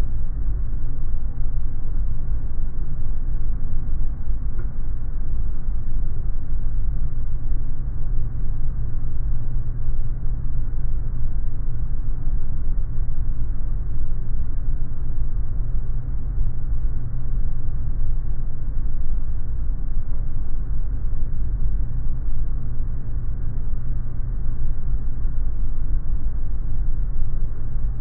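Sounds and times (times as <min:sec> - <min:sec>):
airliner in flight rumbling: 0:00.0 - 0:28.0.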